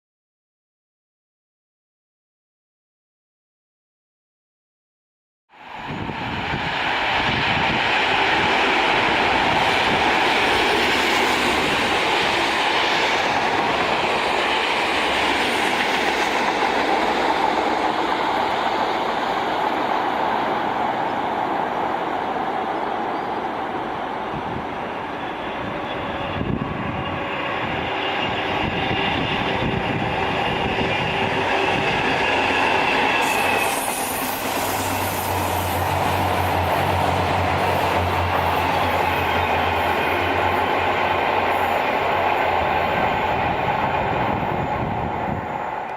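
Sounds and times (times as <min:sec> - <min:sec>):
train wheels rumbling on rail: 0:05.6 - 0:45.9.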